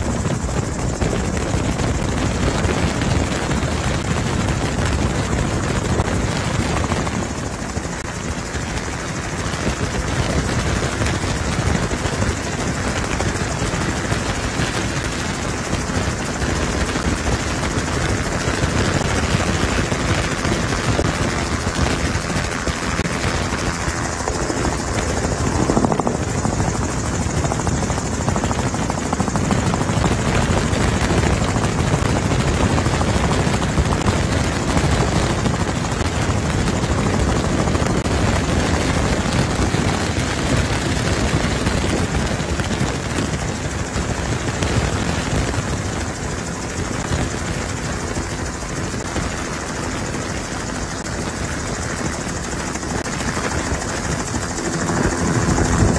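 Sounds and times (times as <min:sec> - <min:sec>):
helicopter rotor and engine: 0:00.0 - 0:55.9.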